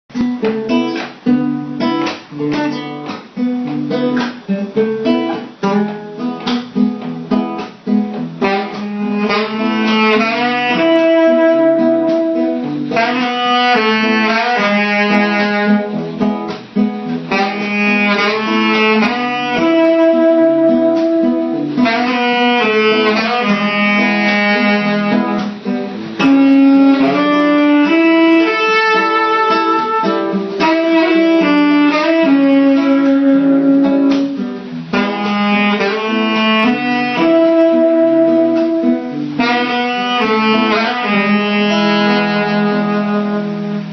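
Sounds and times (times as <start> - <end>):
plucked guitar: 0.1 - 43.9
melody of long held notes: 8.4 - 43.9.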